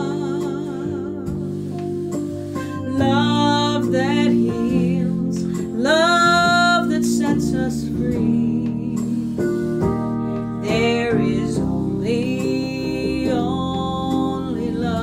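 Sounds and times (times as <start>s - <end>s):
woman singing with vibrato: 0.0s - 9.5s, 10.6s - 15.0s
electronic keyboard chords: 0.0s - 15.0s.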